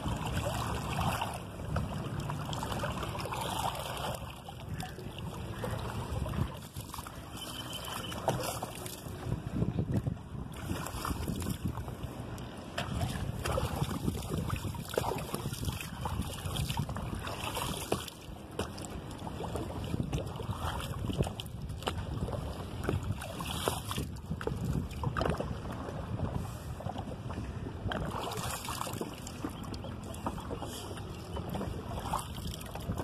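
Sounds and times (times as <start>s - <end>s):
wind buffeting microphone: 0.0s - 7.4s, 8.1s - 33.0s
water splashing beside boat: 0.0s - 33.0s.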